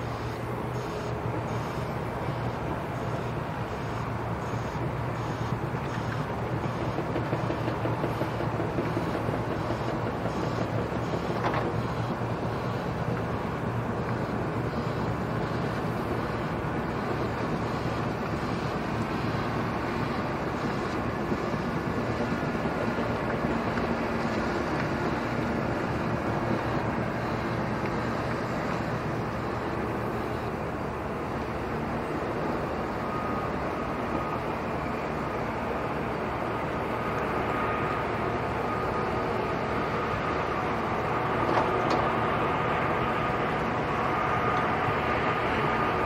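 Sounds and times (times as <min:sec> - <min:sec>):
diesel locomotive engine drone: 0:00.0 - 0:46.0
rumble of train wagons: 0:00.0 - 0:46.0.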